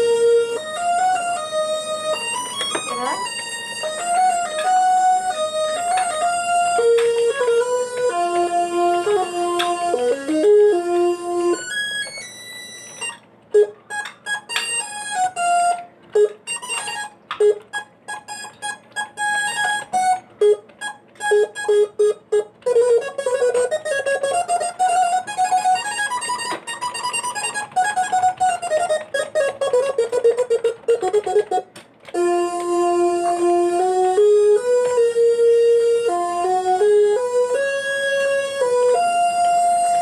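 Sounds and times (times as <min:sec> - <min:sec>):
instrumental music: 0:00.0 - 0:40.0.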